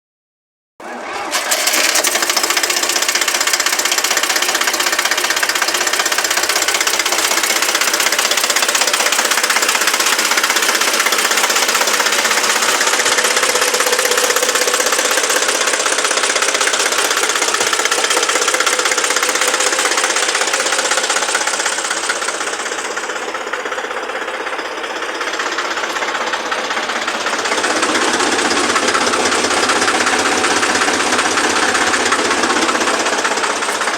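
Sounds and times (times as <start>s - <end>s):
tractor diesel engine running: 0.8s - 33.9s.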